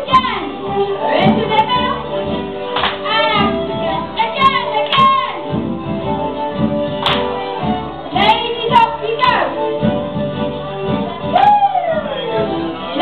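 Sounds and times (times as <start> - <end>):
dancers calling and singing: 0.0 - 13.0
folk dance band playing: 0.0 - 13.0.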